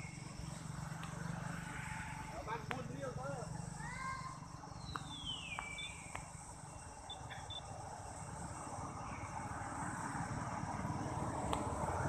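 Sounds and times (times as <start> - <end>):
high insect drone: 0.0 - 12.0
motor vehicle rumble: 0.0 - 12.0.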